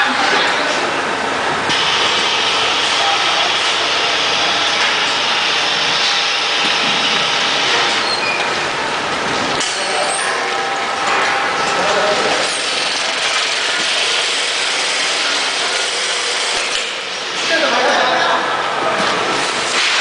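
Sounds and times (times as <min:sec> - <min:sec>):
industrial machinery noise: 0:00.0 - 0:20.0.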